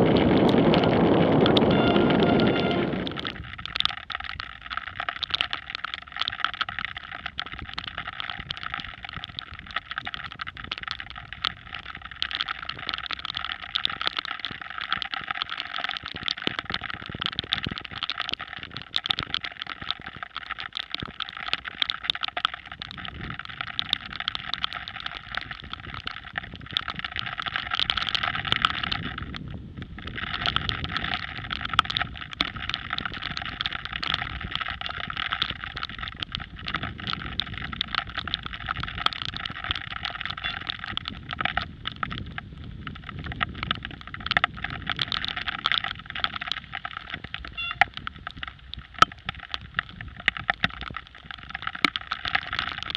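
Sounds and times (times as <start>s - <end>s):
raindrops ticking on camera housing: 0.0s - 52.9s.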